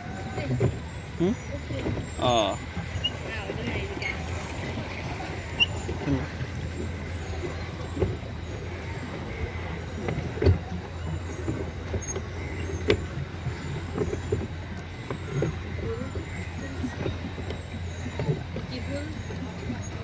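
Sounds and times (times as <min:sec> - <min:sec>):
paddle wheel rumbling in water: 0:00.0 - 0:20.0.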